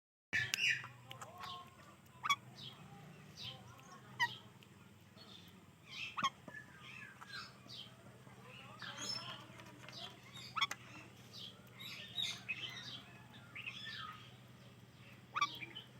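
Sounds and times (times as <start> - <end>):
parakeets chirping: 0.4 - 4.5, 5.2 - 15.9
parakeets squawking: 0.4 - 4.5, 5.3 - 14.4, 15.0 - 15.9.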